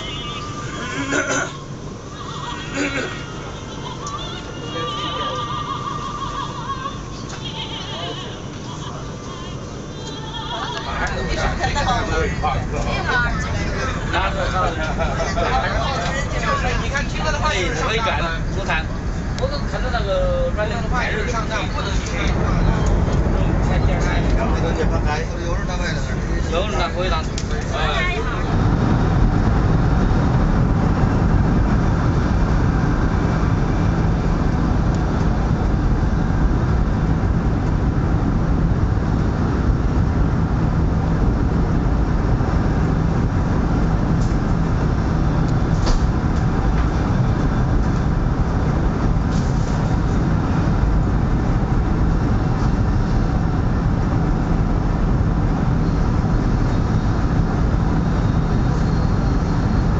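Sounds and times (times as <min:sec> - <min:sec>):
train rumbling at speed: 0:00.0 - 0:59.9.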